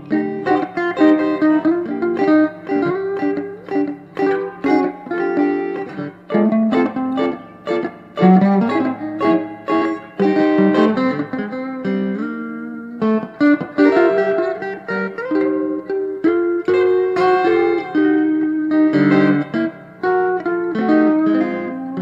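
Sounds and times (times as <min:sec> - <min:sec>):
electric guitars playing: 0:00.0 - 0:22.0.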